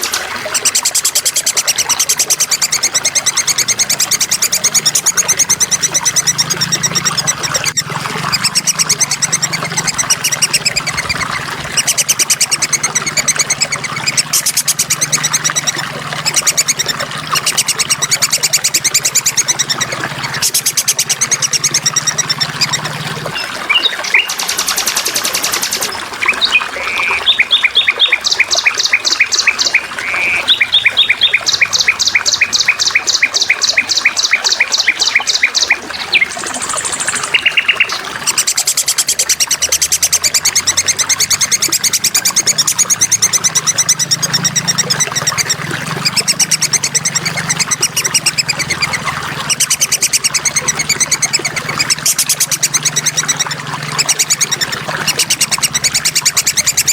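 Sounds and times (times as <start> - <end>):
songbirds chirping and trilling: 0.0 - 56.9.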